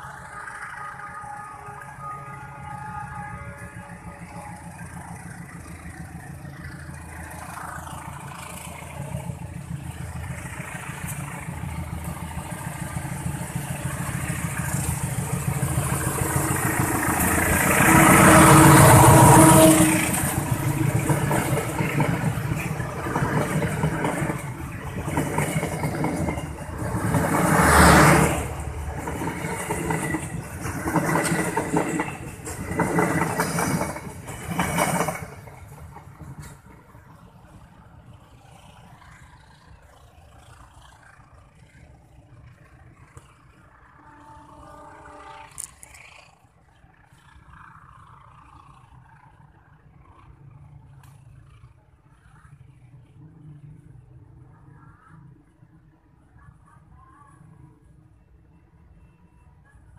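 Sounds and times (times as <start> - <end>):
train wheels clacking on rail joints: 0.0 - 48.8
diesel locomotive passing: 0.0 - 59.9.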